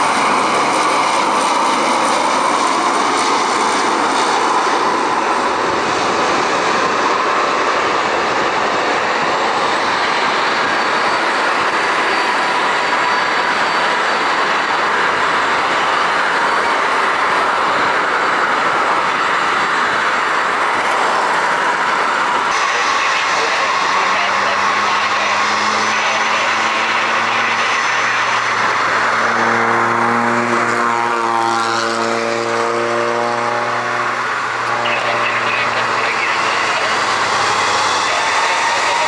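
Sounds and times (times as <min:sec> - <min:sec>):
aircraft engines running: 0:00.0 - 0:39.0.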